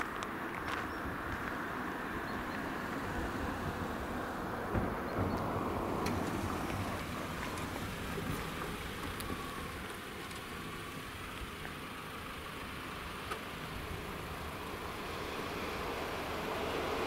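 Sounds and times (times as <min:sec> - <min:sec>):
vehicle rumble with hiss: 0:00.0 - 0:17.0.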